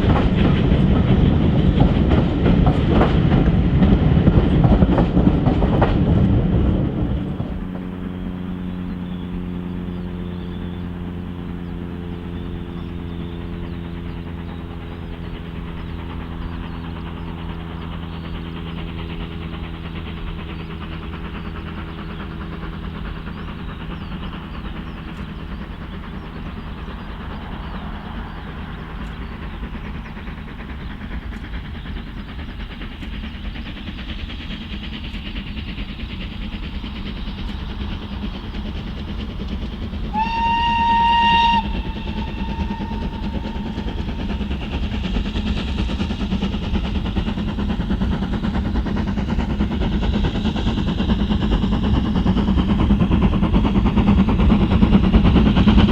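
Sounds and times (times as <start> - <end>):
train passing: 0.0 - 55.9.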